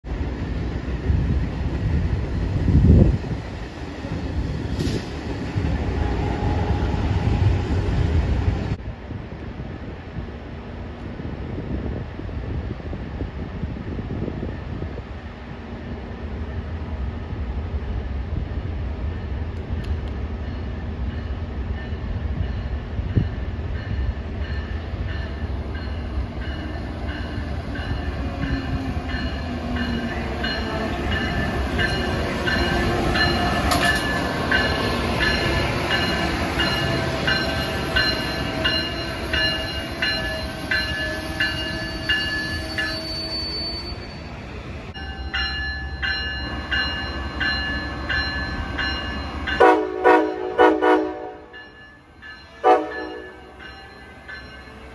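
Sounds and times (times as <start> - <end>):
electric train rumbling in: 0.0 - 54.9.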